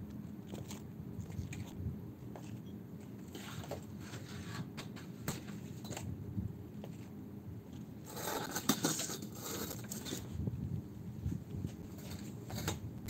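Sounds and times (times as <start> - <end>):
low steady rumble: 0.0 - 4.4, 5.2 - 13.0.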